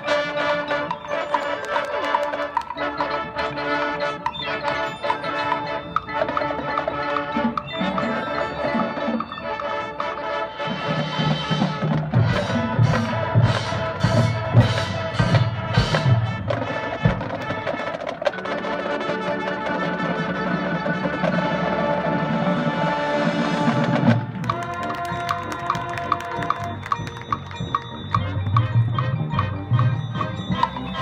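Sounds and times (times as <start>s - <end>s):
marching band playing: 0.0s - 31.0s.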